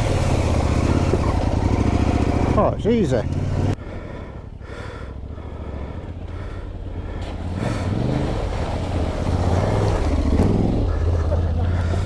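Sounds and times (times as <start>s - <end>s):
motorcycle engine revving: 0.0s - 3.8s, 5.0s - 12.0s.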